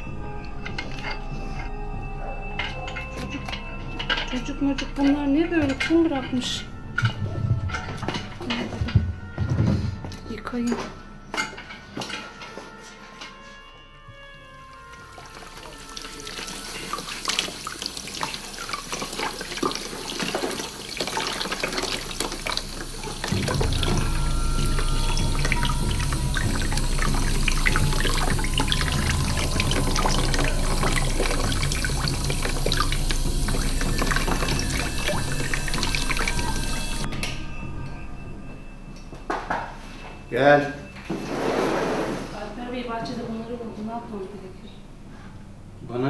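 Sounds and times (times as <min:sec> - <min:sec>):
low droning music: 0:00.0 - 0:41.1.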